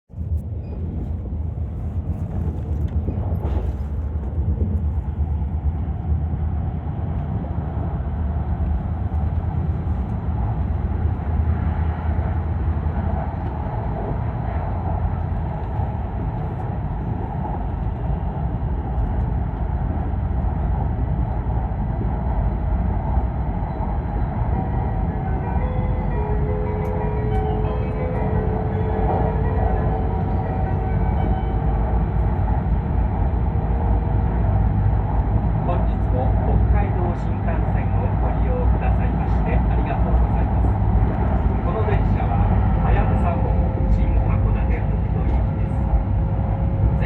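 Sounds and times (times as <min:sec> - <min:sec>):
train rumble inside passenger car: 0:00.1 - 0:47.0.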